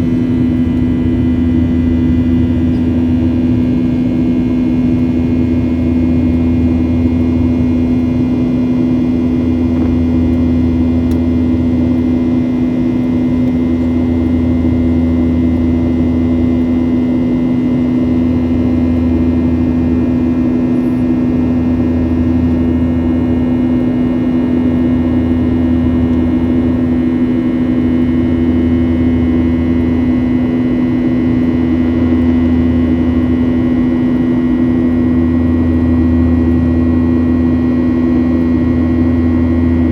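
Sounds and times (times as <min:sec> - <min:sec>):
airplane engines droning in cabin: 0:00.0 - 0:39.9.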